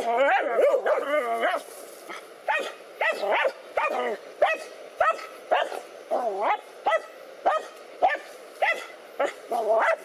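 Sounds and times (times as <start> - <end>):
dogs barking: 0.0 - 10.0.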